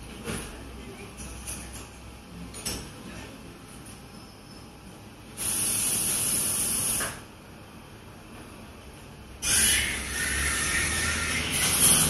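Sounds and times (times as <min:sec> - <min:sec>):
cafe background noise: 0:00.0 - 0:12.0.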